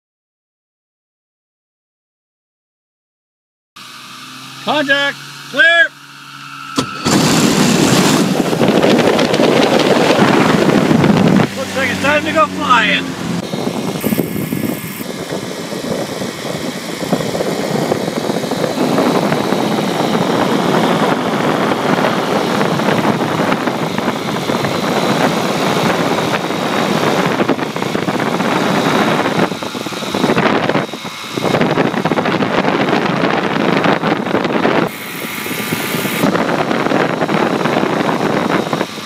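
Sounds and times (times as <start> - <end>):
aircraft engines and propellers: 3.8 - 39.0.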